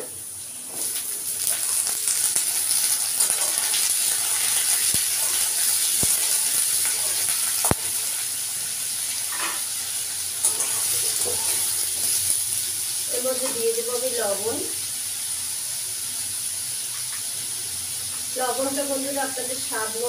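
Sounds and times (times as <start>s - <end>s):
potatoes and onion sizzling in oil: 0.0s - 20.0s.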